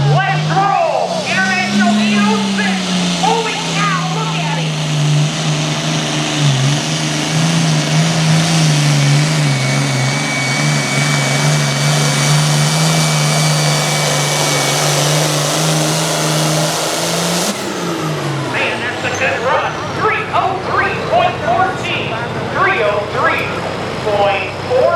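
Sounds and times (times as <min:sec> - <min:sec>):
tractor engine under full load: 0:00.0 - 0:24.9.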